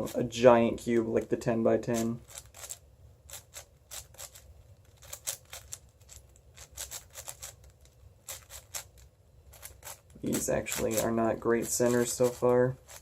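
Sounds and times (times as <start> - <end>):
speed cube plastic clicks: 2.0 - 13.0.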